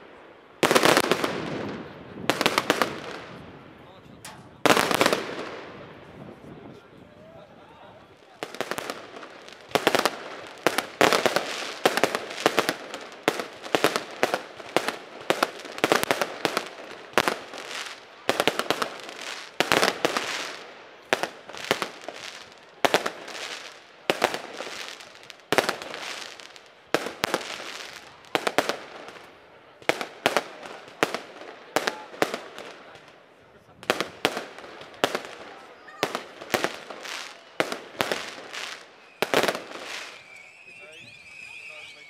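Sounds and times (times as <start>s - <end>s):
fireworks bangs: 0.0s - 7.0s, 8.1s - 42.0s
fireworks crackling and fizzing: 0.0s - 42.0s.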